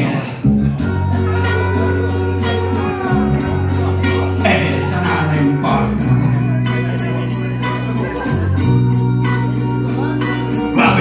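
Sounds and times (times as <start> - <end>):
low keyboard chords: 0.0 - 11.0.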